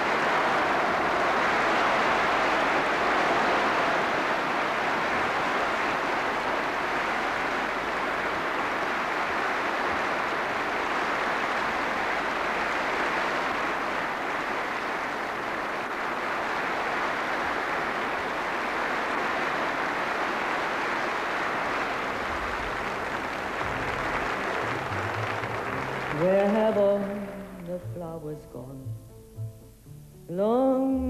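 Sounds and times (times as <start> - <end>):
large audience applauding: 0.0 - 28.0.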